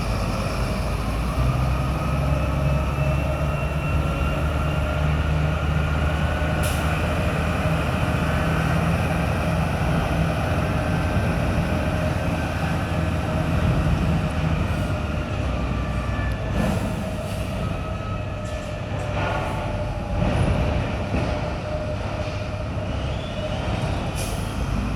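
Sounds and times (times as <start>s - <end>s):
heavy diesel engine under load: 0.0s - 24.9s.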